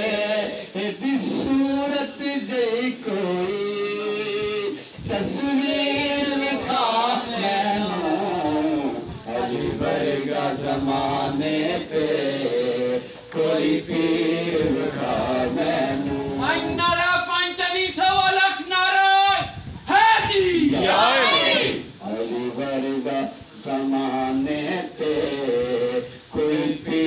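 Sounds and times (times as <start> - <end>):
higher voice singing: 0.0 - 16.9, 20.4 - 27.0
men chanting devotional song: 0.0 - 27.0.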